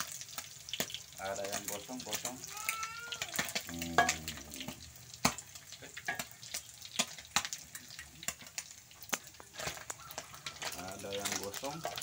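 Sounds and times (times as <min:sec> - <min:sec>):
fish frying in oil: 0:00.0 - 0:12.0
metal spatula in pan: 0:00.0 - 0:12.0.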